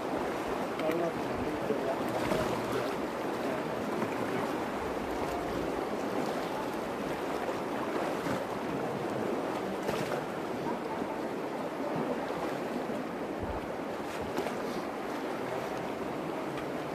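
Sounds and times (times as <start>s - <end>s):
river rushing over stones: 0.0s - 16.9s.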